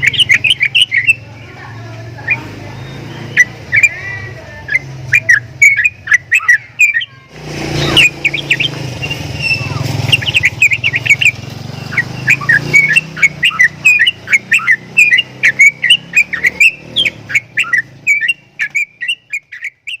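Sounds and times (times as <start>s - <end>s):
bird chirping and whistling: 0.0s - 20.0s.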